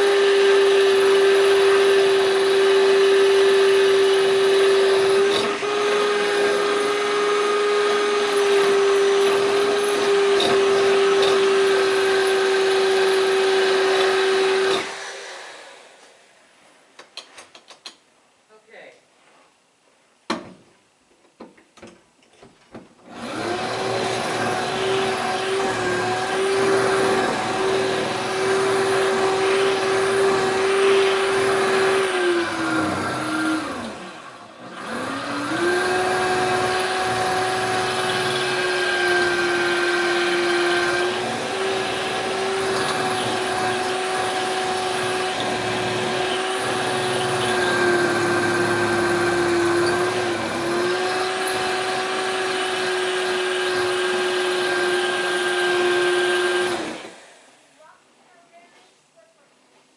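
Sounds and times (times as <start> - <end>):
electric drill whining: 0.0 - 16.2, 23.1 - 57.6.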